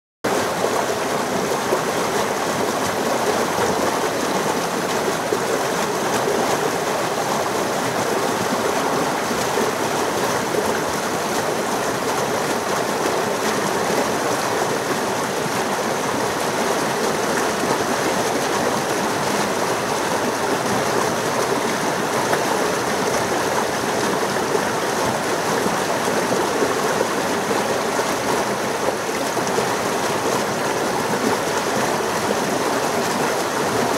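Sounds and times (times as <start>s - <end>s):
stream splashing over boulders: 0.3s - 33.9s.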